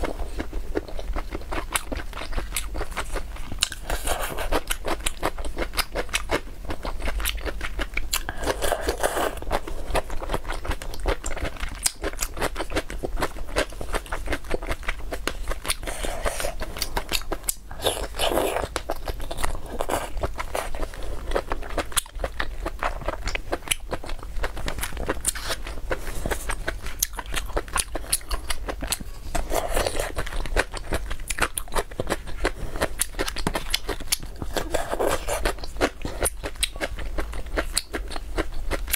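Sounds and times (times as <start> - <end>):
wet chewing and lip-smacking: 0.0 - 38.9.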